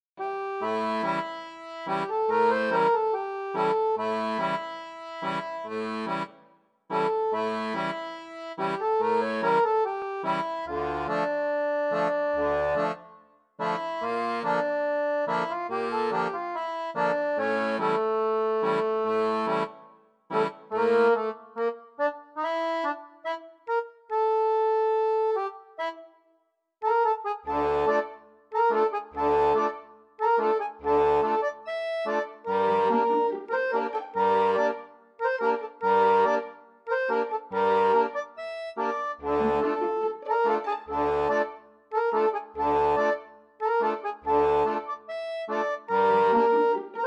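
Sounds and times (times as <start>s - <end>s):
instrumental background music: 0.2s - 47.0s.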